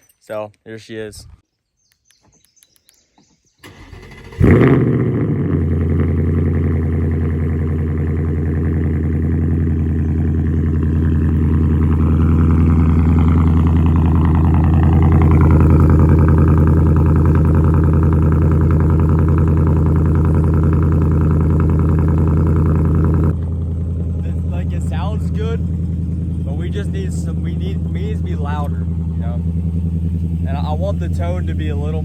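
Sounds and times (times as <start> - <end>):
car engine idling: 3.6 - 32.0.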